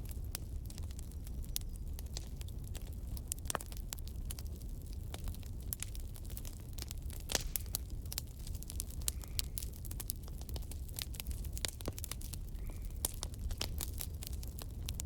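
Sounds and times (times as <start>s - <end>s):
fireplace logs crackling and popping: 0.0s - 15.0s
low rumble of flames: 0.0s - 15.0s.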